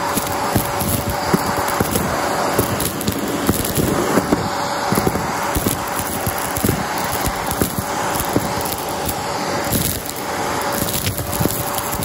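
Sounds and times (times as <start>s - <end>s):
debris crunching through vacuum: 0.0s - 12.0s
vacuum cleaner whining: 0.0s - 12.0s.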